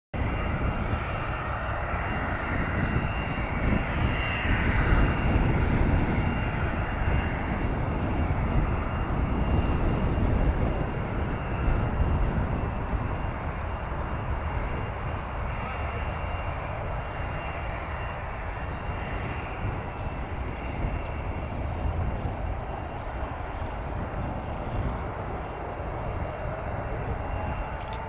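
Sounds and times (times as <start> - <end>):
jet engines whining: 0.2 - 28.0.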